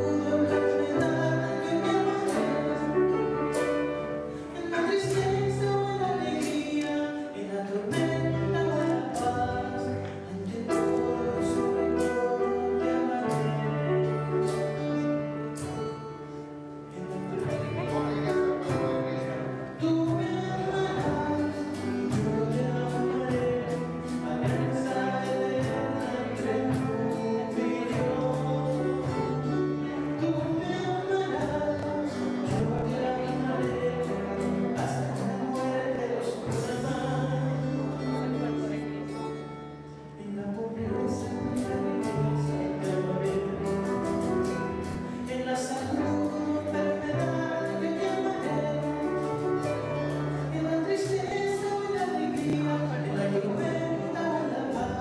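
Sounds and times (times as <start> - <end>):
instrumental accompaniment: 0.0 - 55.0.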